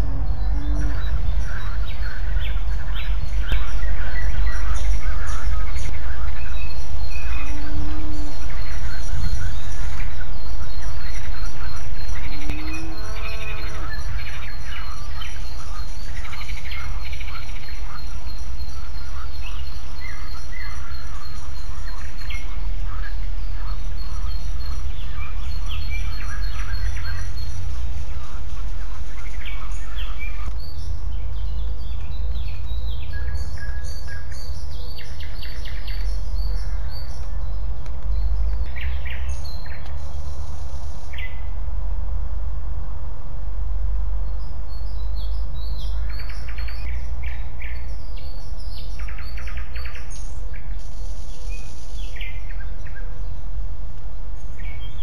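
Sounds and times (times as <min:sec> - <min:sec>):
small birds chirping: 0:00.0 - 0:41.6, 0:44.2 - 0:55.0
low rumble: 0:00.0 - 0:55.0.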